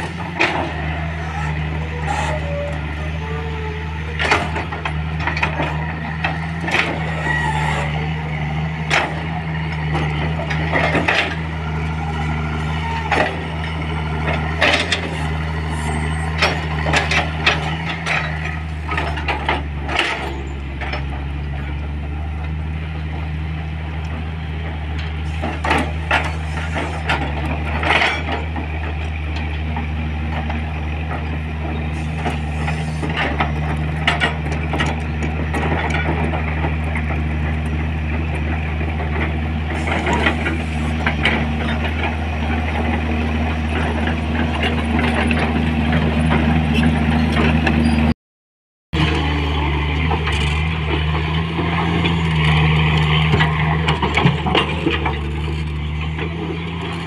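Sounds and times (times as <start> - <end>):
excavator bucket clanking: 0.0 - 21.4, 25.3 - 48.1, 50.0 - 57.0
diesel engine running: 0.0 - 48.2, 48.9 - 57.0.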